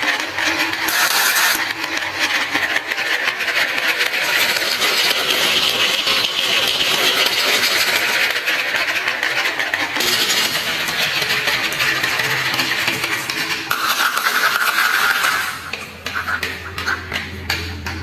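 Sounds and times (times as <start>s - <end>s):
marbles rolling and clattering: 0.0s - 18.0s.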